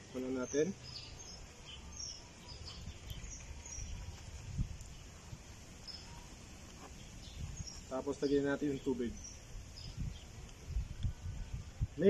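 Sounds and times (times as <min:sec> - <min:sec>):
bird chirps: 0:00.1 - 0:05.1, 0:05.8 - 0:10.7.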